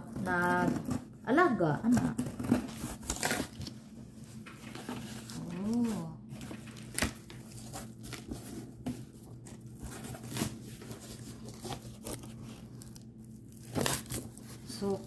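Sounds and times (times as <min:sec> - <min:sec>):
plastic wrap crinkling: 0:00.0 - 0:15.0
cardboard tearing: 0:01.9 - 0:03.8, 0:04.5 - 0:15.0.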